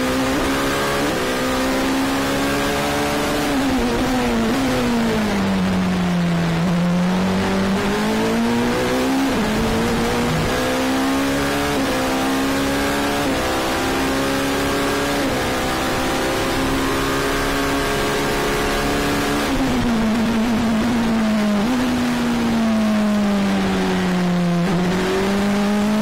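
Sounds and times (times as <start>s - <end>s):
racing car engine accelerating: 0.0s - 26.0s.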